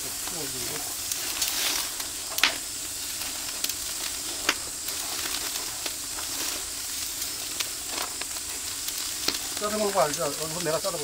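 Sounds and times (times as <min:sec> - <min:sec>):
fire popping: 0:00.0 - 0:11.0
meat sizzling on a grill: 0:00.0 - 0:11.0.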